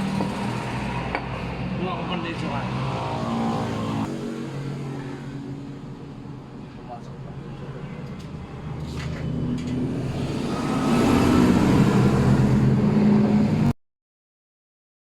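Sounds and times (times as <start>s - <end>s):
vehicle engine hum: 0.0s - 13.7s.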